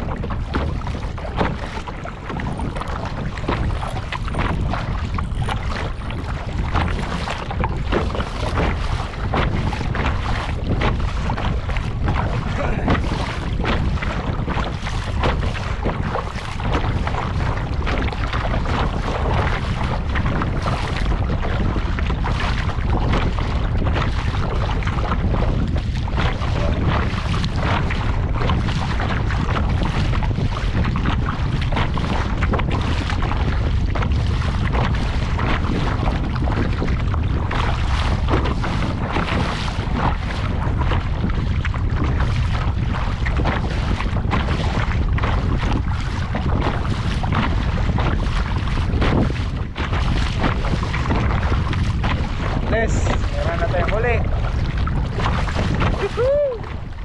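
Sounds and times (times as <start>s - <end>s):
water splashing against kayak: 0.0s - 57.0s
wind buffeting microphone: 0.0s - 57.0s.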